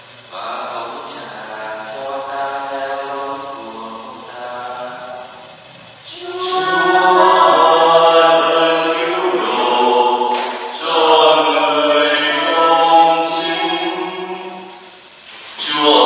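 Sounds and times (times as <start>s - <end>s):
unaccompanied chant: 0.0s - 16.0s.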